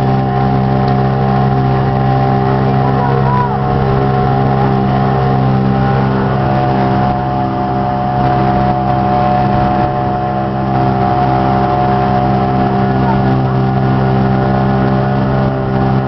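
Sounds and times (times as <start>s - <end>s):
motorboat engine running: 0.0s - 16.0s.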